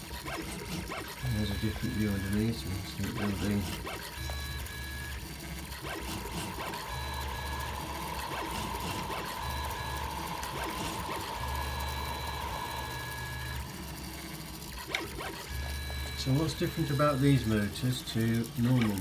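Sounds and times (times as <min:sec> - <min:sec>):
low motor hum: 0:00.0 - 0:19.0
stepper motors whining: 0:00.0 - 0:19.0.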